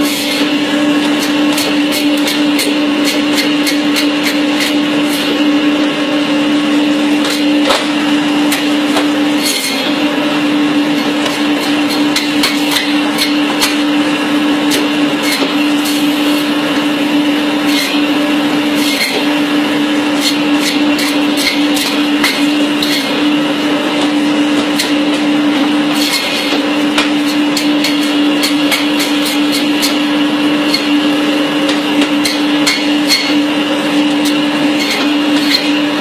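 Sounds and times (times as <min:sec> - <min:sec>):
bone-cutting machine humming: 0:00.0 - 0:36.0.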